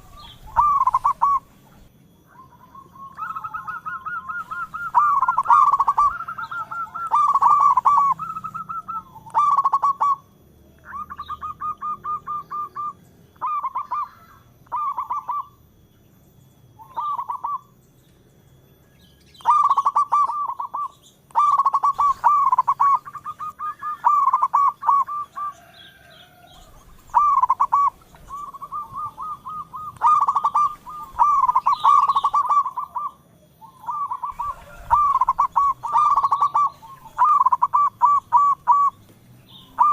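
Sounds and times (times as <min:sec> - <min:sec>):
dove cooing: 0:00.0 - 0:15.7, 0:16.8 - 0:17.8, 0:19.4 - 0:39.9.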